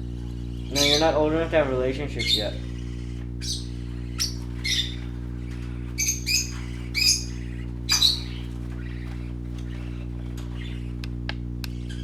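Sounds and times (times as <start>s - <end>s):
steady low hum: 0.0s - 12.0s
parrots chirping harshly: 0.2s - 11.0s, 11.7s - 12.0s.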